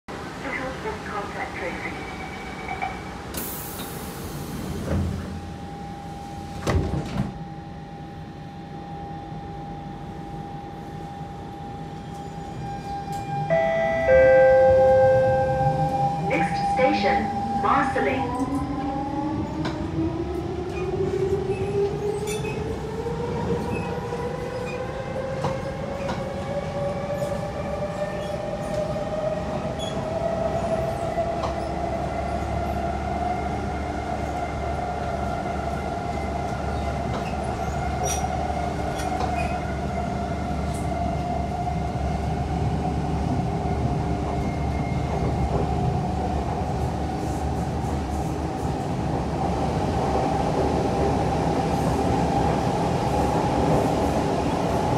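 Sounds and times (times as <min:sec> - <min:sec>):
metro train traction drive whining: 0:00.4 - 0:54.9.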